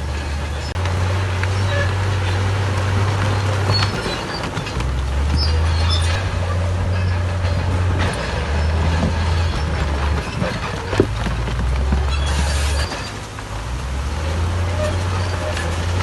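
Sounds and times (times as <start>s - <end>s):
heavy diesel engine under load: 0.0s - 16.0s
knocks and clanks: 0.0s - 16.0s.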